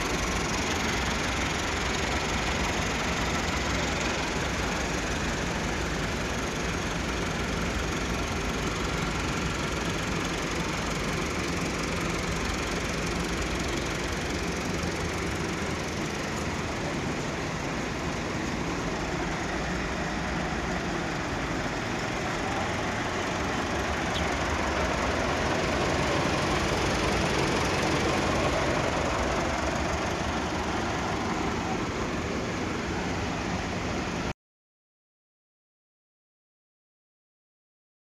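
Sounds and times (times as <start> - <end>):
tractor diesel engine running: 0.0 - 34.3.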